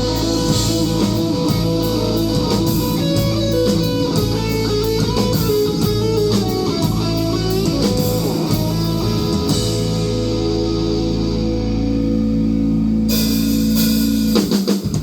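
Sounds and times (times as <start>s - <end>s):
electric guitar with sliding notes: 0.0s - 15.0s
rock band backing: 0.0s - 15.0s.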